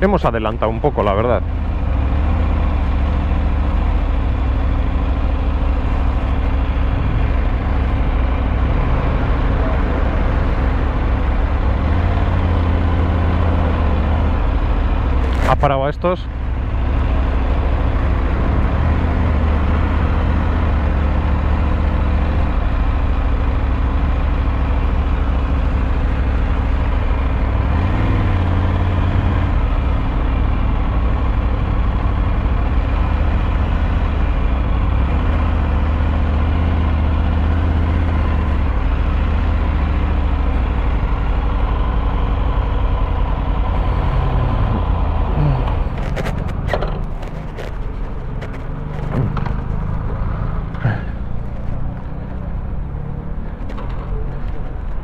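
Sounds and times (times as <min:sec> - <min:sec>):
engines idling: 0:00.0 - 0:55.0.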